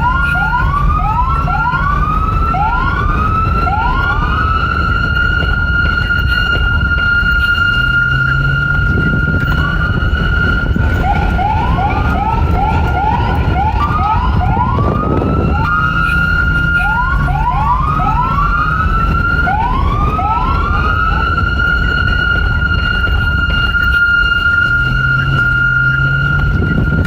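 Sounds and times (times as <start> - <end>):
low rumble: 0.0 - 27.0
police car siren: 0.0 - 27.0.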